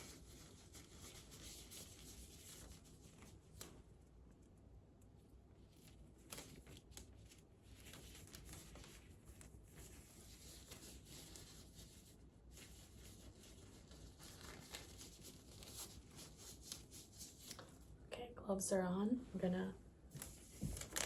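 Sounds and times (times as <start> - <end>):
gloves rustling and crinkling: 0.0 - 18.0, 20.1 - 21.0.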